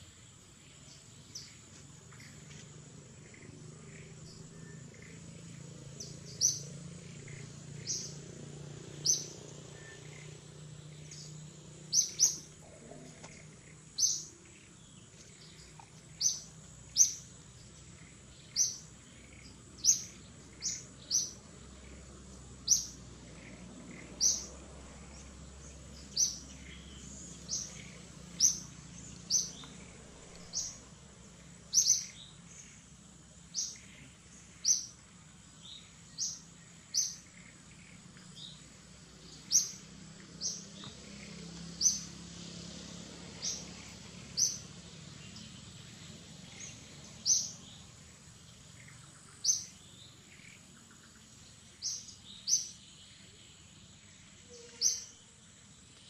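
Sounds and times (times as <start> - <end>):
bird chirping: 0.0 - 56.0
faint background noise: 0.0 - 56.0.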